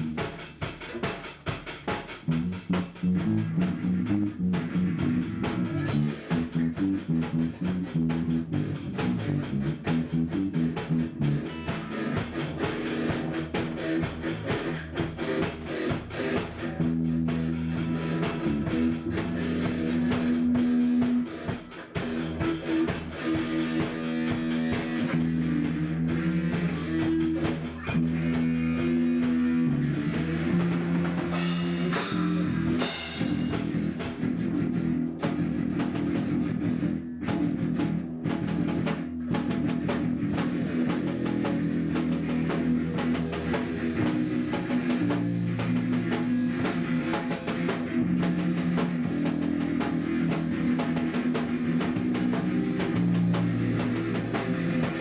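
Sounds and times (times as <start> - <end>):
drum kit beat: 0.0 - 55.0
guitar: 0.0 - 55.0.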